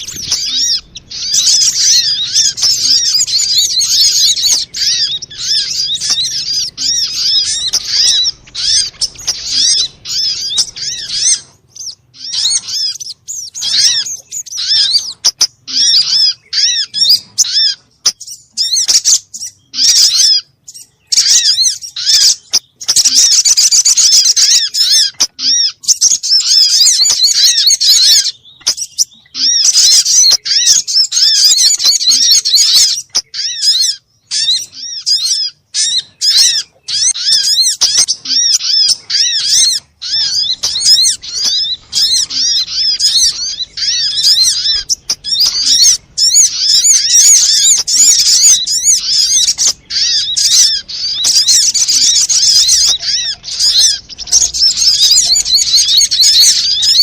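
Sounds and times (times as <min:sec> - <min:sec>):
bird chattering high chirps: 0:00.0 - 0:57.0.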